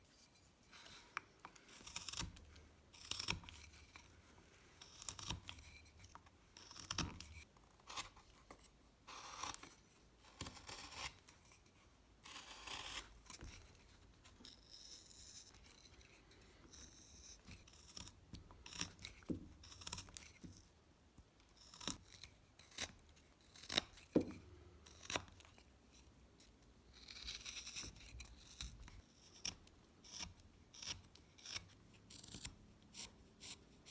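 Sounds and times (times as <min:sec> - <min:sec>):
knife scraping wood: 0:00.0 - 0:20.7, 0:21.5 - 0:33.9.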